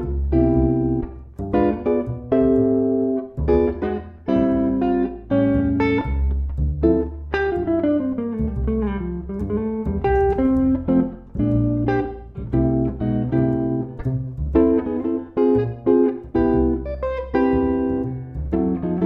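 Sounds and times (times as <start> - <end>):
walking double bass: 0.0 - 19.0.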